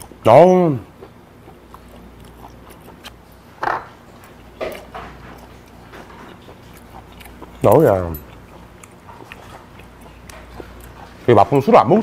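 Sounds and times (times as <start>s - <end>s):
person chewing: 0.0s - 0.2s, 0.8s - 11.6s.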